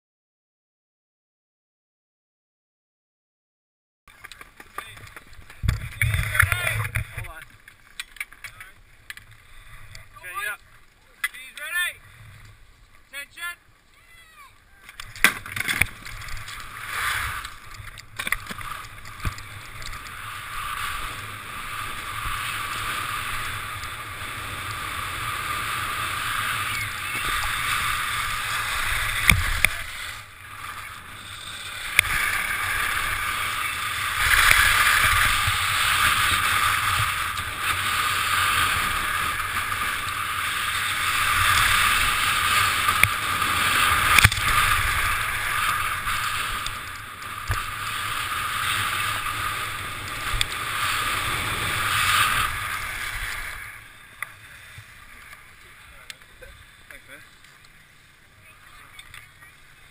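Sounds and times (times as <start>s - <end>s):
skis scraping over snow: 4.2s - 14.9s, 15.6s - 59.9s.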